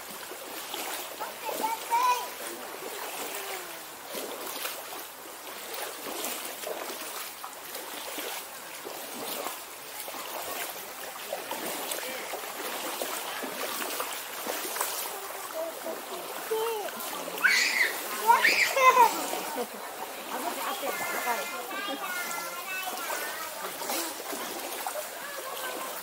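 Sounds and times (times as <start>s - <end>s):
stream water running and splashing: 0.0s - 26.0s.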